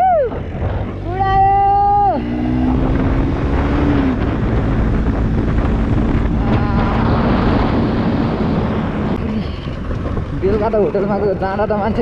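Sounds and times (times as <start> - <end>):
motorcycle engine cruising: 0.0 - 12.0
wind noise on microphone: 0.0 - 12.0.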